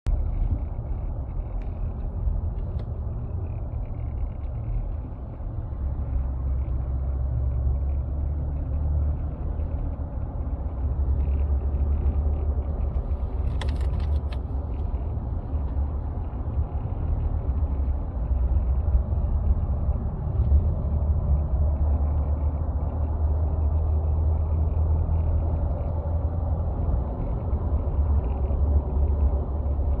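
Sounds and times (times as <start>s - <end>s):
road and drivetrain rumble: 0.0s - 30.0s.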